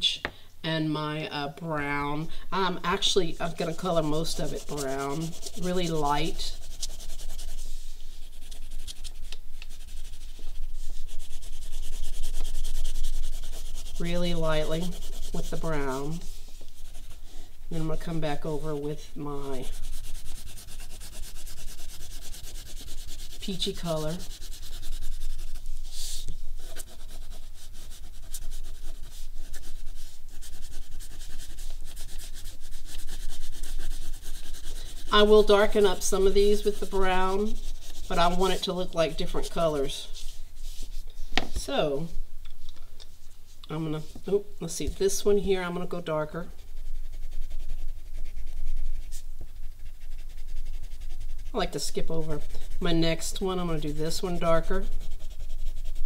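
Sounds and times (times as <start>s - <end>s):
crayon rubbing on paper: 2.6s - 41.5s, 43.2s - 56.0s.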